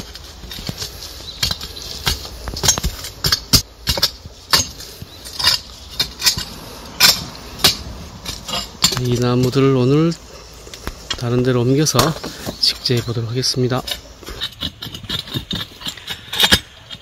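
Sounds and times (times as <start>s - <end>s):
metal tool striking stony soil: 0.0s - 10.1s, 10.7s - 17.0s.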